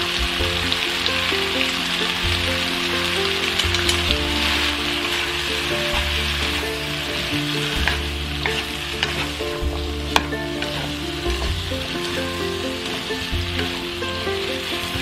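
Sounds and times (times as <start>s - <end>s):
background music: 0.0s - 15.0s
vegetables sizzling in a wok: 0.0s - 15.0s.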